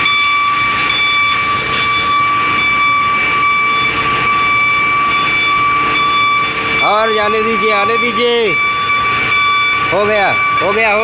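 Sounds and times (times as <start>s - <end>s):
rushing noise: 0.0s - 10.8s
heavy machinery whining: 0.0s - 11.0s.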